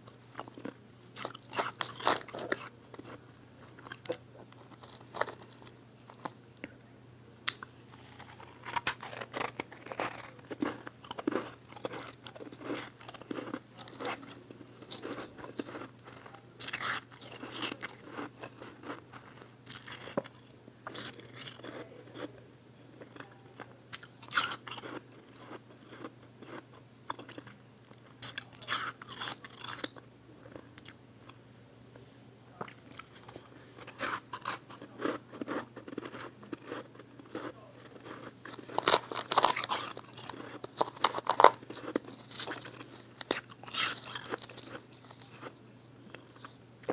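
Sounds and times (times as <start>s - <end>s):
chewing crunchy ice: 0.3s - 6.4s, 7.5s - 22.4s, 23.0s - 31.4s, 32.6s - 46.9s.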